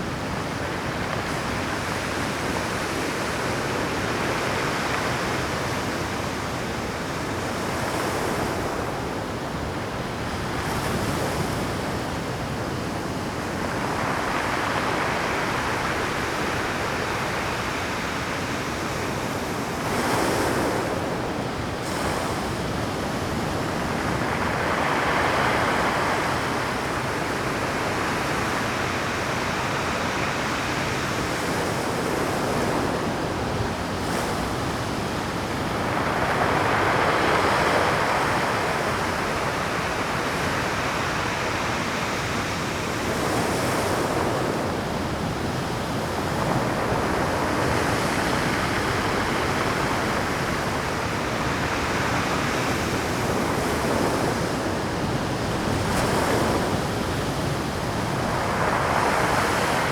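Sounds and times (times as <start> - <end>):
surf crashing on rocky shore: 10.6 - 59.9.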